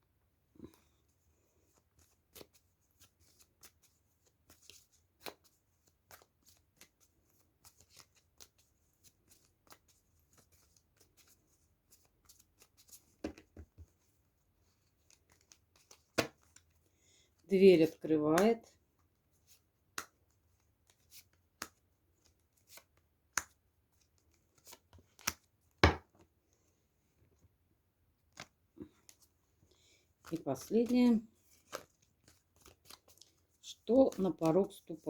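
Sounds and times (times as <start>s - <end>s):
cards being shuffled: 1.6s - 16.8s, 17.8s - 26.3s, 28.2s - 35.0s.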